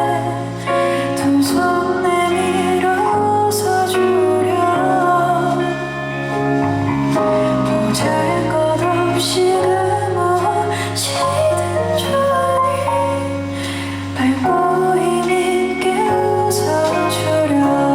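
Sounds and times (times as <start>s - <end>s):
live band music: 0.0s - 17.9s
woman singing: 0.0s - 17.9s.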